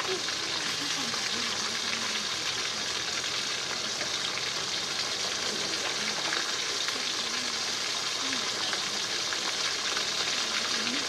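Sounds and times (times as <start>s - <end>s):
pot boiling with sizzling hiss: 0.0s - 11.0s.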